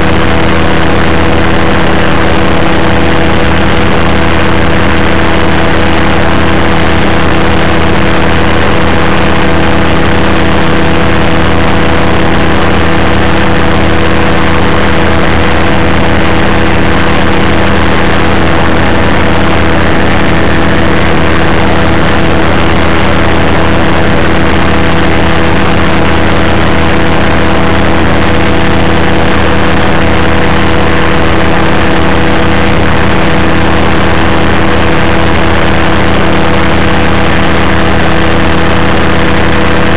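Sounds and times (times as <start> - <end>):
ultralight engine and propeller: 0.0 - 39.9.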